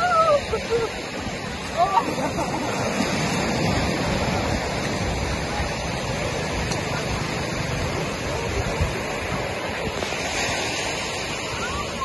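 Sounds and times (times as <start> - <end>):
sea surf breaking: 0.0 - 12.0.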